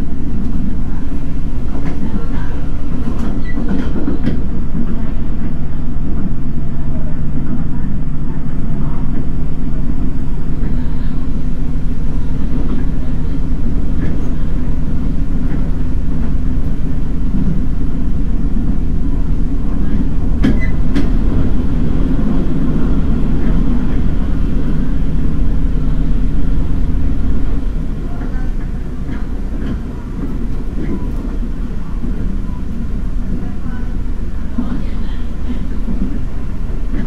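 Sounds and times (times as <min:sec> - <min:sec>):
railcar wheels rumbling on rails: 0:00.0 - 0:37.0
steady low hum: 0:00.0 - 0:37.0.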